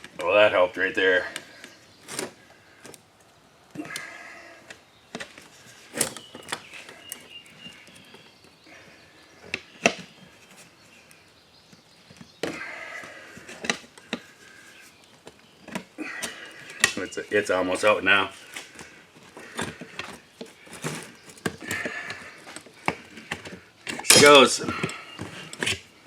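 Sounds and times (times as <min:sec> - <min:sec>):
rubber tire squeaking on rim: 0:00.2 - 0:03.0, 0:03.8 - 0:26.0.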